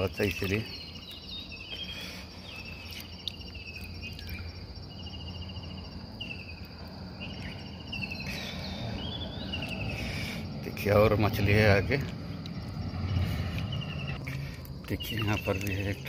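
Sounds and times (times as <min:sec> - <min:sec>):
insect pulsed trills: 0:00.0 - 0:16.0
insects chirring: 0:00.0 - 0:16.0.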